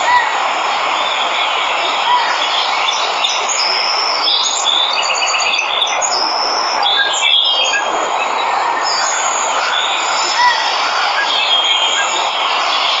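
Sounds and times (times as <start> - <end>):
birds chirping: 0.0 - 13.0
waterfall rushing: 0.0 - 13.0.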